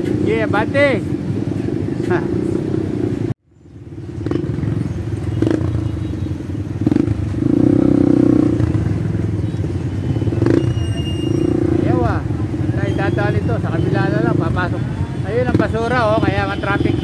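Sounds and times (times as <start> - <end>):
motorcycle engines in traffic: 0.0 - 17.0.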